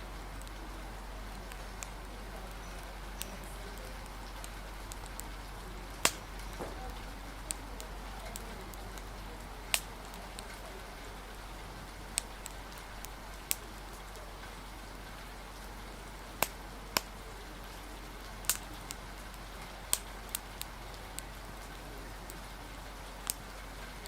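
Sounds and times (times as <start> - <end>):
rain hiss: 0.0 - 24.0
wood fire crackling: 0.0 - 24.0.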